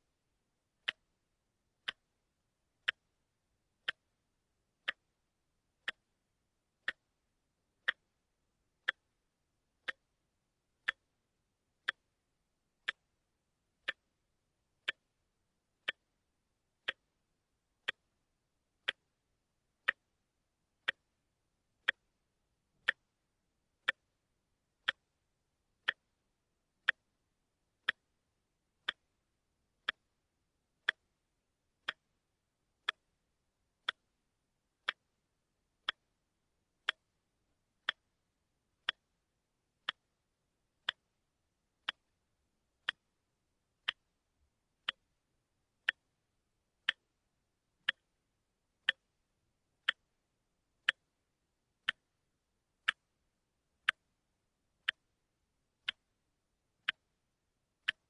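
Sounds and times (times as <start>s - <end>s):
watch ticking: 0.6s - 47.2s, 47.8s - 57.2s, 57.8s - 58.0s.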